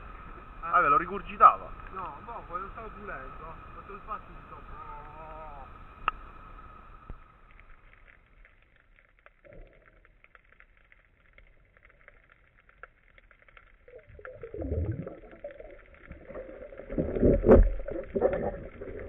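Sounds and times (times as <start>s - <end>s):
faint underwater crackling: 0.0s - 19.0s.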